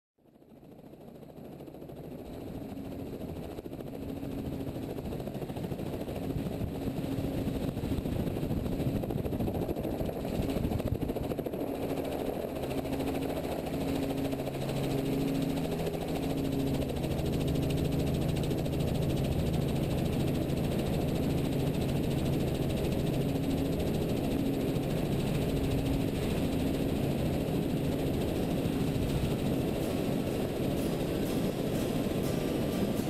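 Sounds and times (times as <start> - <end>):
helicopter engine and rotor: 0.2 - 33.0.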